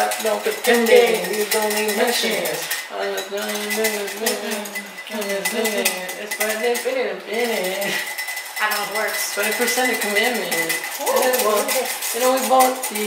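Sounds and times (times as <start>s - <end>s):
cutlery and dishes clattering: 0.0s - 13.0s.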